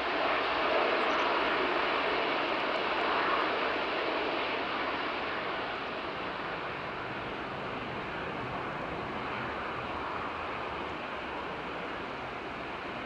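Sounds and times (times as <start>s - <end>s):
distant jet engines whooshing: 0.0s - 13.0s.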